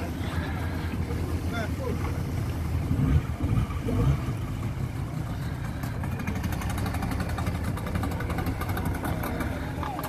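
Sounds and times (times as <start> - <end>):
motorboat engine rumbling: 0.0 - 10.0.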